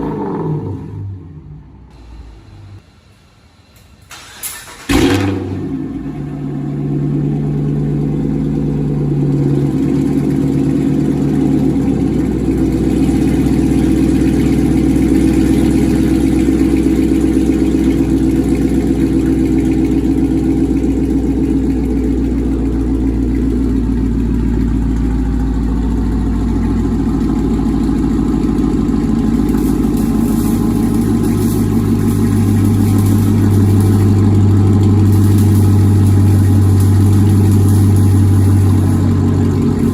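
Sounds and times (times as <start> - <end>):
car engine idling with deep rumble: 4.9 - 39.9.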